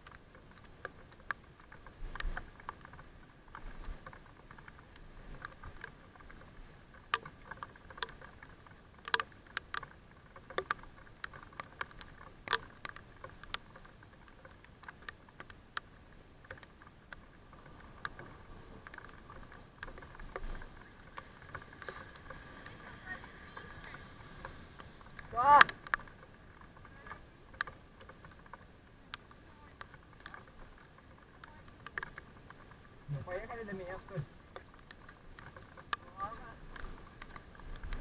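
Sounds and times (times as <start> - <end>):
faint steady noise: 0.0 - 38.0
light clicks and taps: 0.0 - 38.0.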